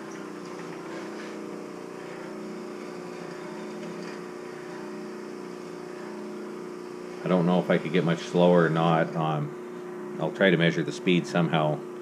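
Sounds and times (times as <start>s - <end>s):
bandsaw mechanical hum: 0.0s - 12.0s.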